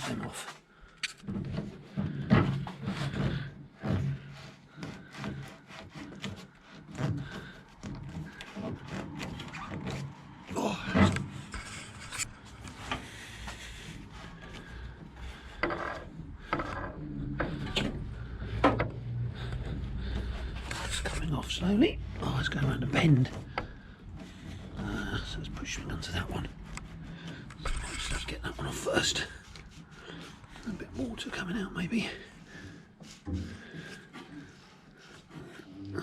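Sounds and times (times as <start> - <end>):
screwdriver scraping rubber hose: 0.0 - 36.0.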